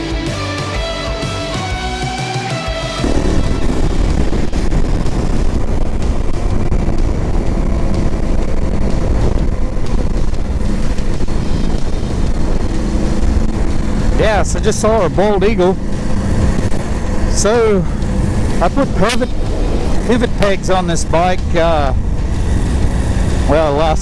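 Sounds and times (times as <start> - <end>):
motorcycle engine running: 3.0 - 24.0
wind rush on microphone: 3.0 - 24.0.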